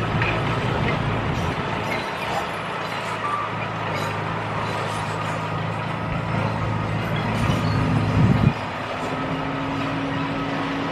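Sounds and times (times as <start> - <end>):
bulldozer diesel engine running: 0.0 - 10.9.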